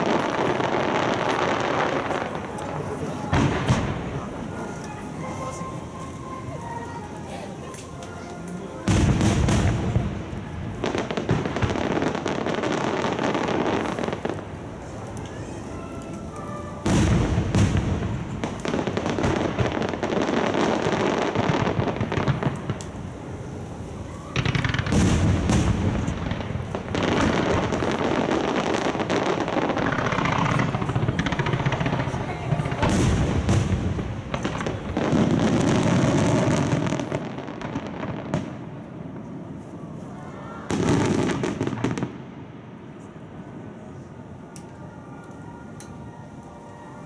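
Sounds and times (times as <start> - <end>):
fireworks booming: 0.0 - 39.8, 40.6 - 43.5
fireworks crackling: 0.0 - 47.0.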